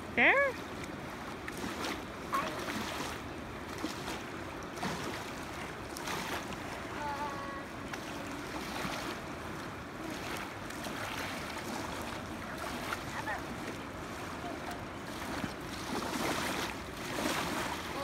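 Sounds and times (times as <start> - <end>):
fast-flowing river rushing: 0.0 - 18.0
small waves washing on shore: 0.0 - 18.0.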